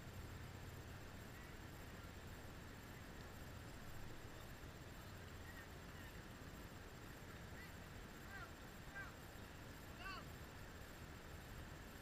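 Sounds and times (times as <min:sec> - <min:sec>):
low outdoor air rumble: 0:00.0 - 0:12.0.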